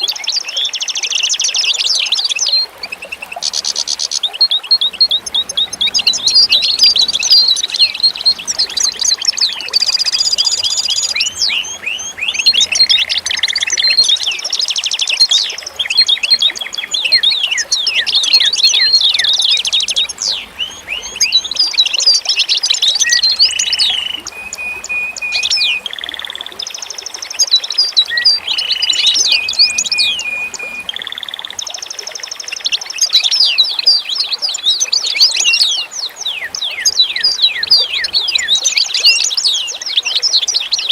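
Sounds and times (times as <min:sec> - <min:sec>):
chorus of songbirds chirping: 0:00.0 - 0:40.9.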